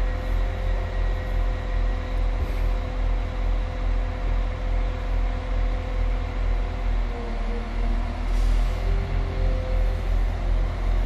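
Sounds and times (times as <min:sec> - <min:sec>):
diesel train engines idling: 0:00.0 - 0:11.0.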